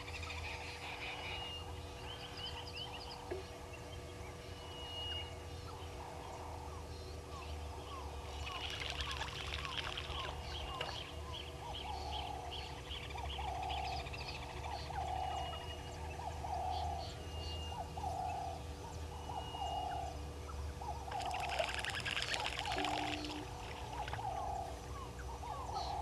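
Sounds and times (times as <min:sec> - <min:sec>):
birds chirping: 0:00.0 - 0:26.0
frogs calling: 0:00.0 - 0:26.0.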